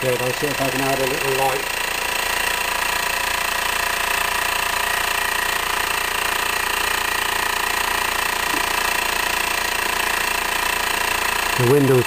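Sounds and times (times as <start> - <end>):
stirling engine running: 0.0 - 12.0.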